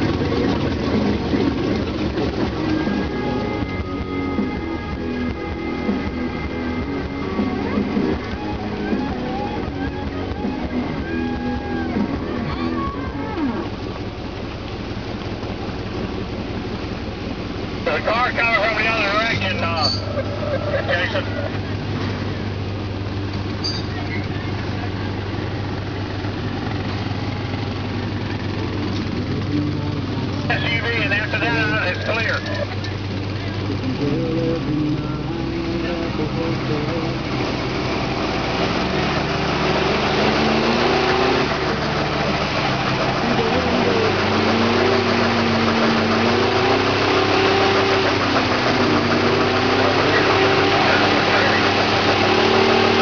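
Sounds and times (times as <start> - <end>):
spinning tires rushing: 0.0 - 53.0
vehicle engine droning: 0.0 - 53.0.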